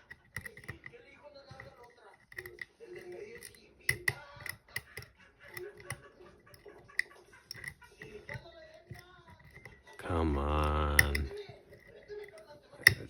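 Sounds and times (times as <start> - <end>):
lock pick clicking on pins: 0.0 - 0.9, 1.6 - 13.0.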